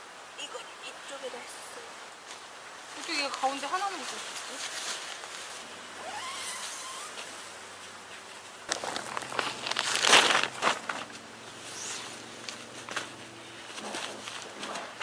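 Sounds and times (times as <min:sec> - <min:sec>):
tent fabric rustling and crinkling: 0:02.2 - 0:15.0.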